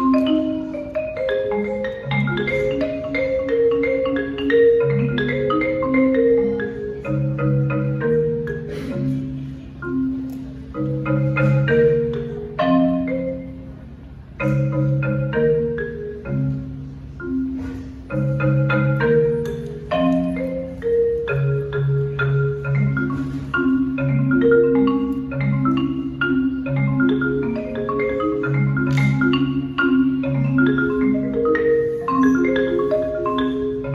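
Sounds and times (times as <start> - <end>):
marimba played with mallets: 0.0 - 33.9.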